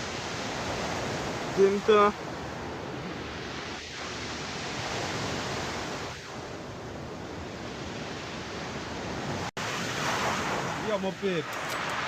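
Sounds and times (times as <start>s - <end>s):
sea surf rushing: 0.0s - 12.0s.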